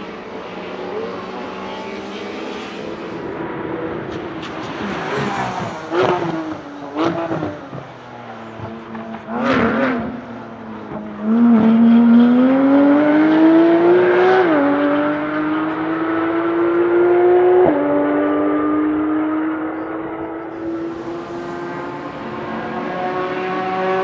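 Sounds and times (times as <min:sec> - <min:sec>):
car engine revving and accelerating: 0:00.0 - 0:24.0.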